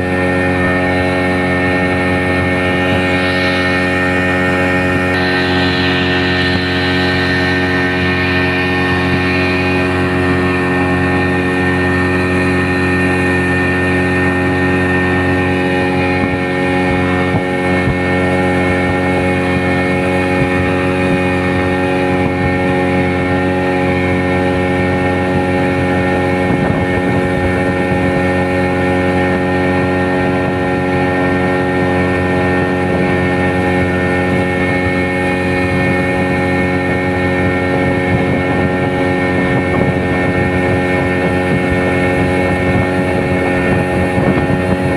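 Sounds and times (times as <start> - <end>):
small boat engine running: 0.0 - 44.9.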